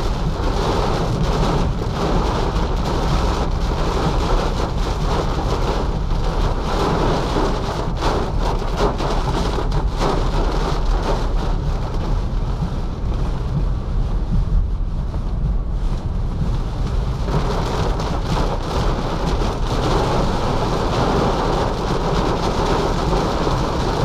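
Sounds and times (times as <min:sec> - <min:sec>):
heavy rain drumming on car roof: 0:00.0 - 0:24.0.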